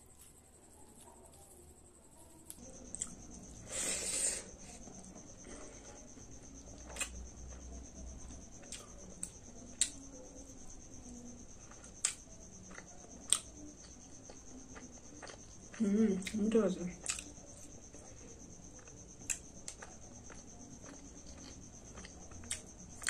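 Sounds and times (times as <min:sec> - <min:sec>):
soft chewing: 0:00.0 - 0:23.0.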